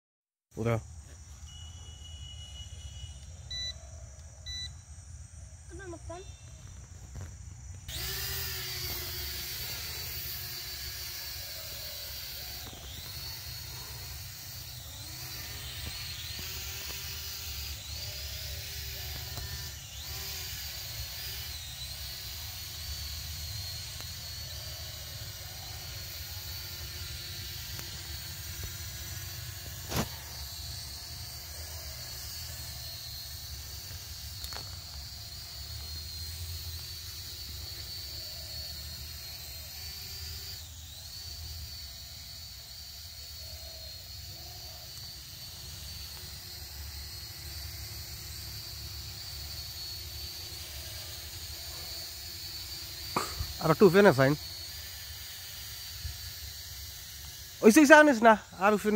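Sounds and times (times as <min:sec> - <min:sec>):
toy drone whining: 0:01.3 - 0:05.0, 0:05.6 - 0:58.9.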